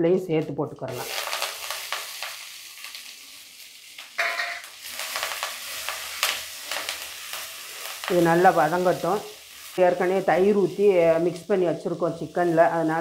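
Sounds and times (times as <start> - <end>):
onions sizzling in hot oil: 0.9 - 13.0.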